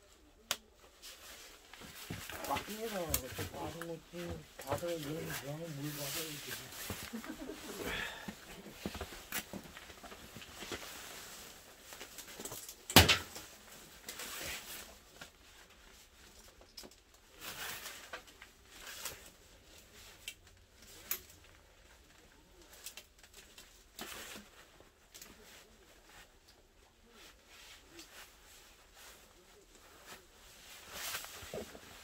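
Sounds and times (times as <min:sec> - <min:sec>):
clothing rustling: 0:00.0 - 0:32.0.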